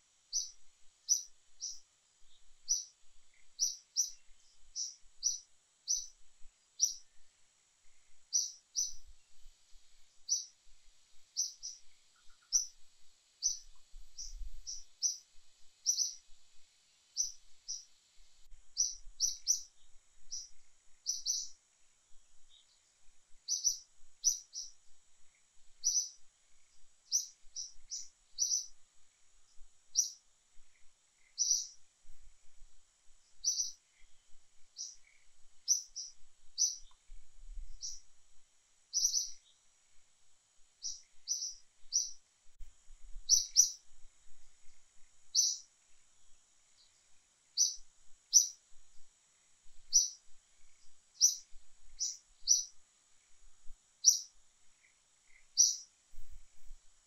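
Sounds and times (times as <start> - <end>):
bird chirping: 0.3 - 31.8, 33.2 - 38.1, 38.9 - 39.6, 40.8 - 42.3, 43.3 - 43.9, 44.6 - 45.7, 46.7 - 48.6, 49.9 - 53.4, 54.0 - 56.8.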